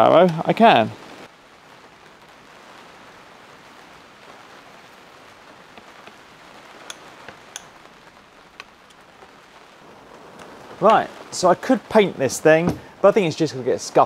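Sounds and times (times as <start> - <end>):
rain on a tent roof: 0.0 - 14.0.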